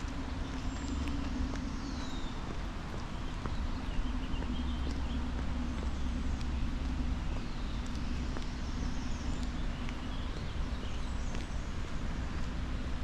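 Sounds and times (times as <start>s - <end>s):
birds chirping: 0.0s - 13.0s
distant traffic rumble: 0.0s - 13.0s
footsteps on a path: 0.0s - 13.0s.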